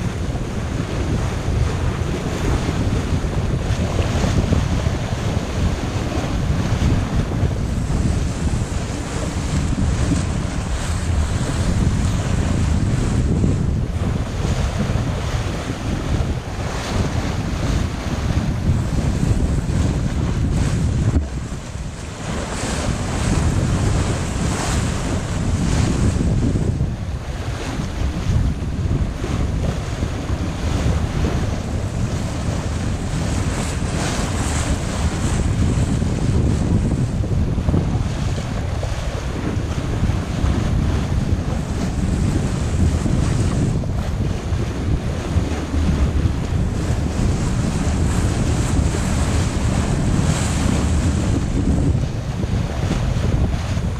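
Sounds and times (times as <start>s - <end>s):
sea rushing: 0.0s - 53.9s
wind buffeting microphone: 0.0s - 53.9s.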